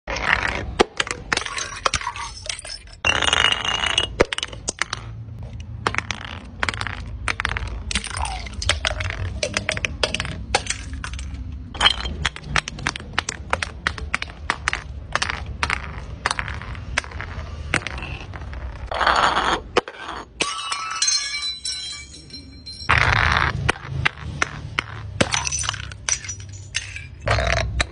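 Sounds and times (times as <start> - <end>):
hard objects clattering down stone steps: 0.1 - 27.9
small balls bouncing down steps: 0.1 - 27.9.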